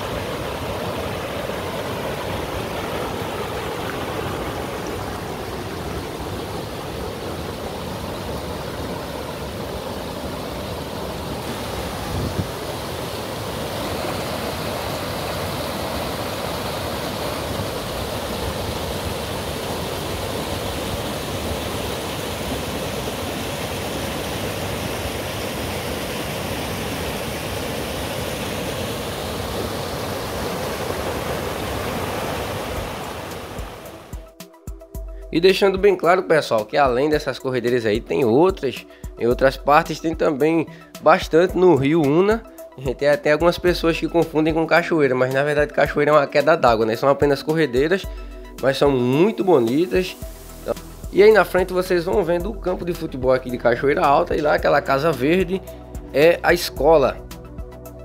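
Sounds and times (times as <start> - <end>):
water rushing over rocks: 0.0 - 34.4, 35.6 - 57.2.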